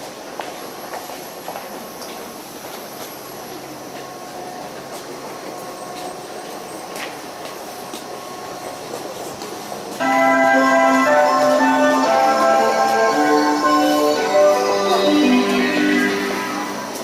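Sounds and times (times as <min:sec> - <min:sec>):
faint train hum: 0:00.0 - 0:17.0.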